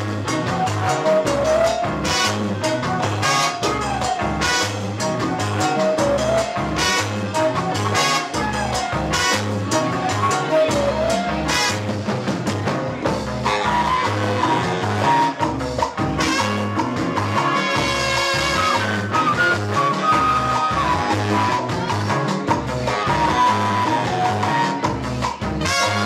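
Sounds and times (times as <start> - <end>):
live band playing instrumental: 0.0 - 26.0
repeating bass figure: 0.0 - 26.0.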